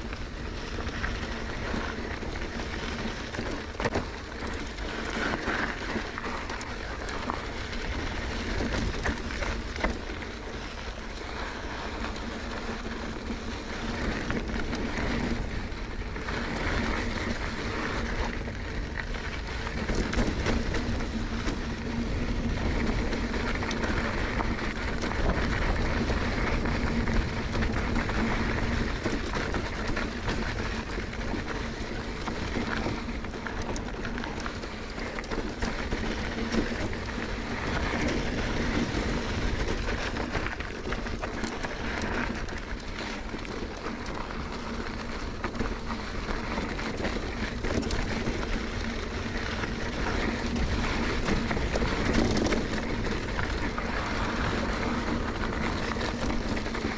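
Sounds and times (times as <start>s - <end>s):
bike rattling: 0.0s - 56.9s
bike tyre roar: 0.0s - 56.9s.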